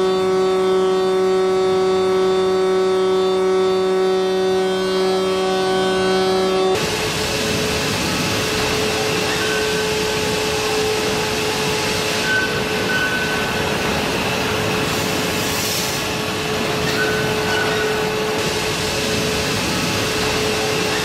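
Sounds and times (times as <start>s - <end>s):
induction furnace roar: 0.0s - 21.0s.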